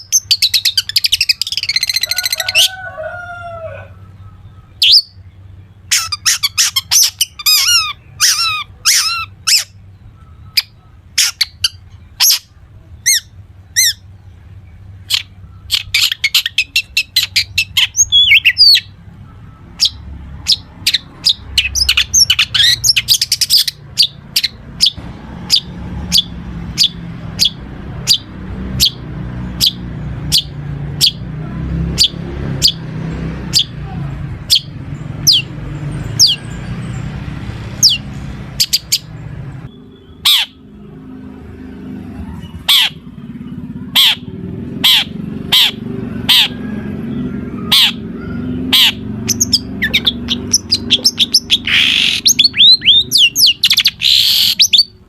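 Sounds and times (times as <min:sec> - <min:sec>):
bird singing sharp calls: 0:00.0 - 0:02.8, 0:03.5 - 0:41.2, 0:41.8 - 0:55.0.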